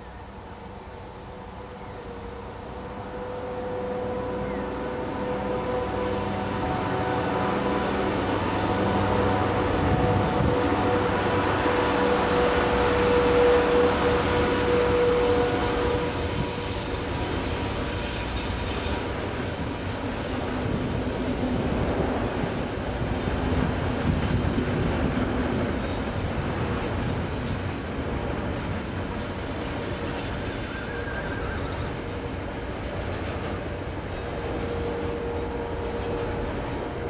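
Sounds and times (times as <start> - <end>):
diesel locomotives running: 0.0 - 37.0.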